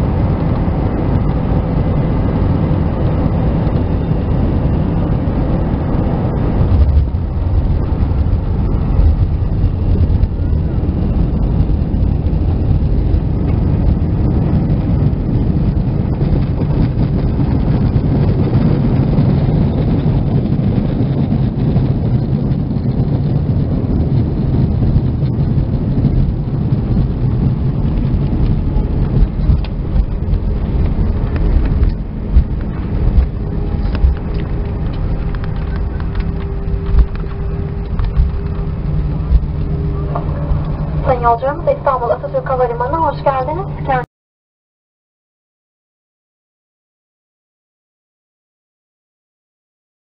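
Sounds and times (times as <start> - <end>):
engines and wheels rumbling: 0.0 - 44.1.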